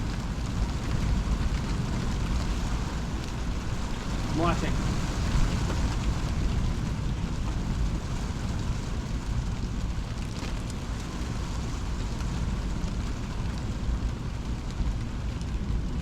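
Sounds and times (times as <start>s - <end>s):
rain falling steadily: 0.0s - 16.0s
wind rumbling on microphone: 0.0s - 16.0s.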